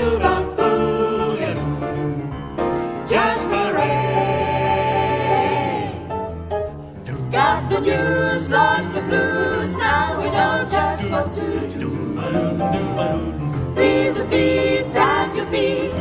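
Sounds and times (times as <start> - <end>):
mixed vocal ensemble singing: 0.0 - 16.0.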